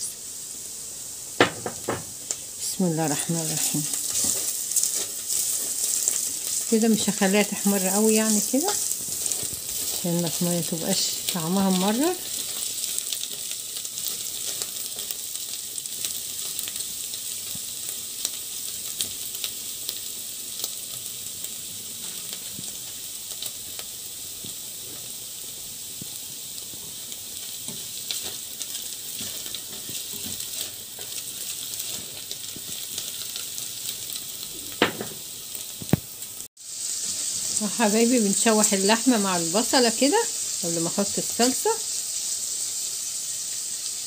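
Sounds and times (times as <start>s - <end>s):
onions sizzling in hot fat: 0.0s - 44.0s.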